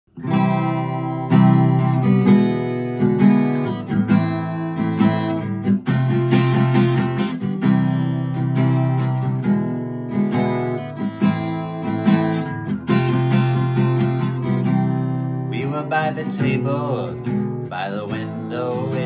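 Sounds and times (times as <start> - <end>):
acoustic guitar strumming: 0.1 - 19.0.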